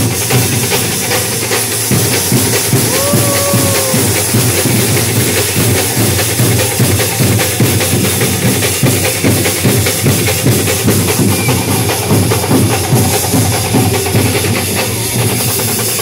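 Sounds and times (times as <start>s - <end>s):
drum-led music with fast beat: 0.0s - 16.0s.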